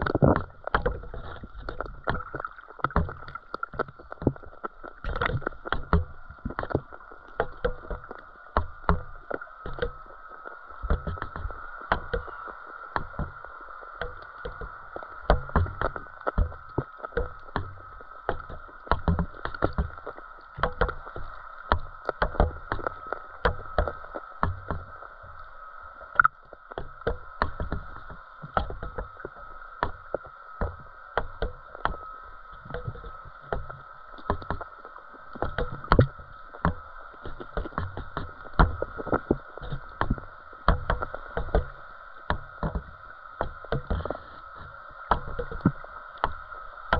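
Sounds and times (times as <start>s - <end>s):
underwater knocks and thumps: 0.0s - 46.9s.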